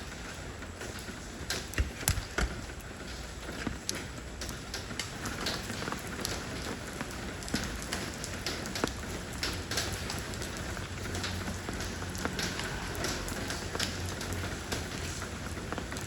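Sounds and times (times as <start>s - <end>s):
rain falling on stones: 0.0s - 16.0s.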